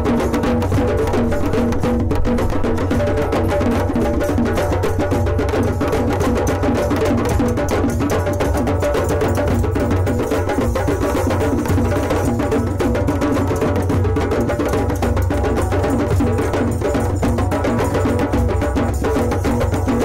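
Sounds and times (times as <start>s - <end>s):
hand drums playing together: 0.0s - 20.0s.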